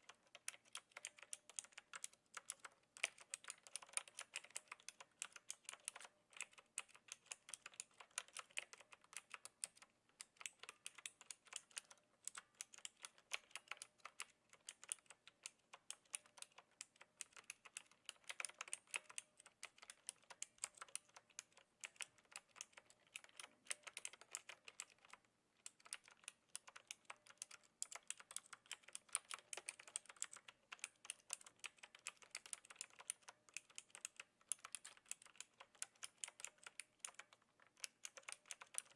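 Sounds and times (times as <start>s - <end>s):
mechanical keyboard key clicks: 0.0s - 38.9s.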